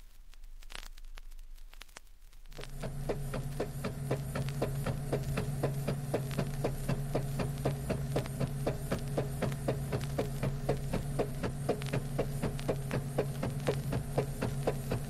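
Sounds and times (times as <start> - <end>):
machinery clicking: 2.6 - 15.0
elevator motor hum: 2.7 - 15.0.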